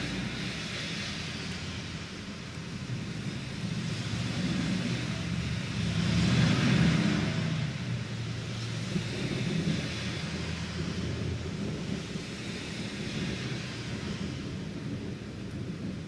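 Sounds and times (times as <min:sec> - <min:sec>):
car tyres swishing on wet road: 0:00.0 - 0:16.0
steady rain hiss: 0:00.0 - 0:16.0.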